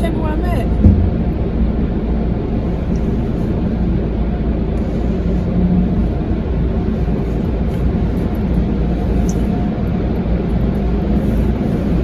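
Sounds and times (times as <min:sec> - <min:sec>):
car wash machinery rumbling: 0:00.0 - 0:12.0.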